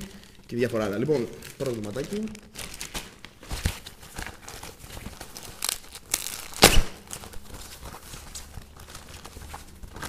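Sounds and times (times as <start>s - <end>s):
plastic packaging crinkling: 0.1s - 10.0s
plastic packaging ripping: 0.8s - 10.0s.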